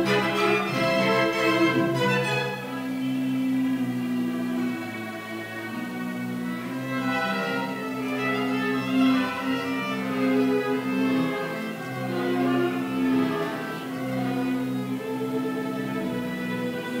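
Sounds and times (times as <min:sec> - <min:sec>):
slow bowed string music: 0:00.0 - 0:17.0.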